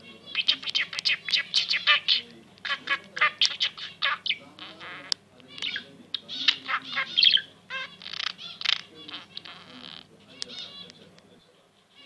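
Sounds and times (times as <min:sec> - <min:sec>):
budgerigar chattering and warbling: 0:00.0 - 0:11.1.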